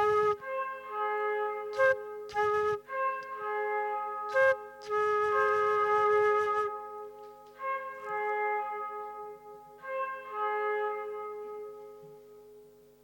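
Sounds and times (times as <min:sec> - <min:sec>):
flute playing long notes: 0:00.0 - 0:11.7.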